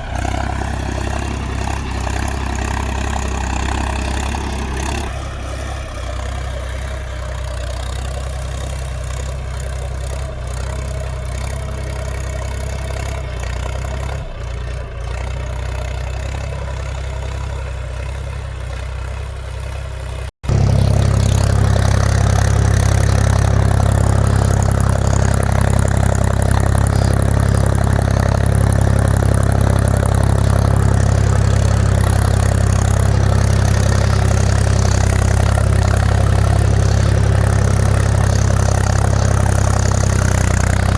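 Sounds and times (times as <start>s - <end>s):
tractor diesel engine idling: 0.0s - 40.9s.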